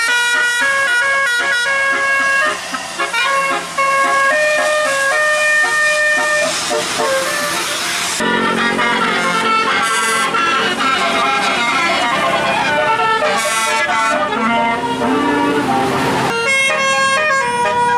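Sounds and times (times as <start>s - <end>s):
musical horn playing a melody: 0.0s - 17.9s
rushing noise: 0.7s - 16.4s.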